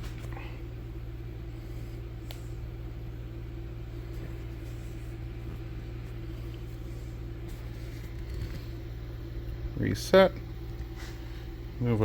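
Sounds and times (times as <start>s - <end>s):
steady low electrical hum: 0.0s - 12.0s.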